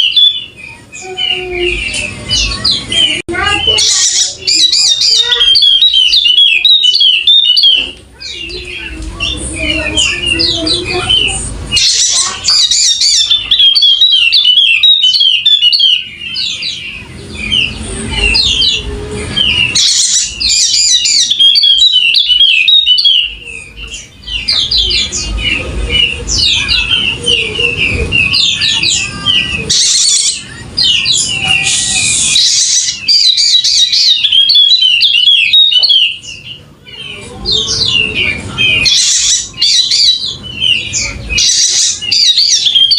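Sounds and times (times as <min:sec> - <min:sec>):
bird twittering song: 0:00.0 - 0:42.9.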